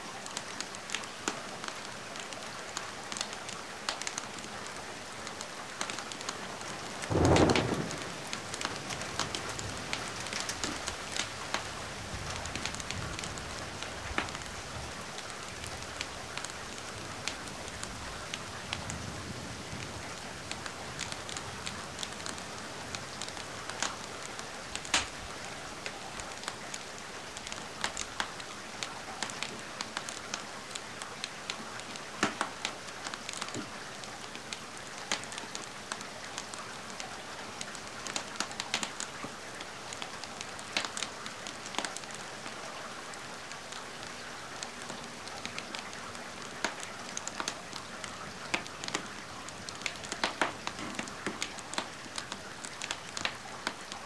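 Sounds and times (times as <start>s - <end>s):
rain hiss: 0.0s - 54.0s
wood fire crackling and popping: 0.2s - 19.0s, 19.7s - 42.6s, 43.7s - 54.0s.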